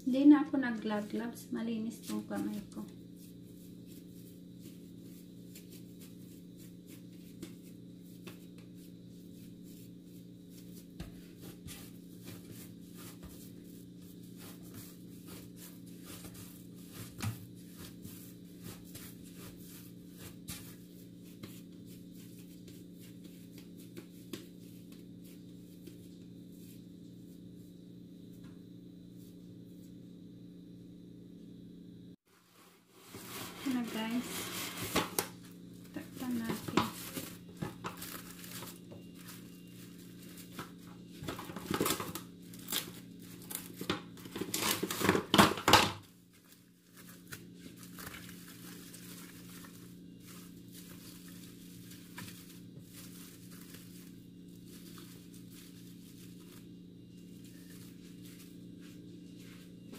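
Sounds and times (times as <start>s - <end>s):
steady low hum: 0.0s - 44.3s, 46.0s - 59.9s
hands kneading dough: 0.1s - 30.0s, 32.3s - 45.4s, 46.0s - 59.9s.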